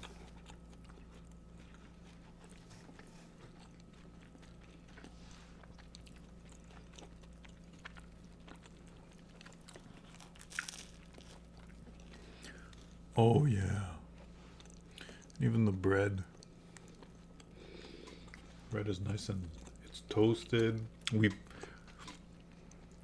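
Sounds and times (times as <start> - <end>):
chewing and crunching food: 0.0 - 23.0
low electrical hum: 0.0 - 23.0.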